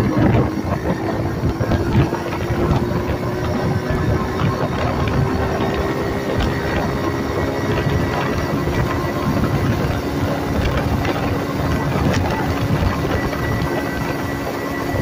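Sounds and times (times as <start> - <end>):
motorized bicycle engine running: 0.0 - 15.0
wind on microphone: 0.0 - 15.0.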